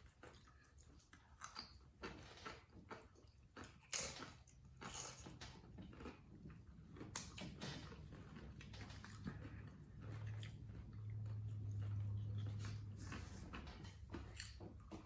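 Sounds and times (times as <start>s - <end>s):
crunching chips: 0.0s - 15.0s.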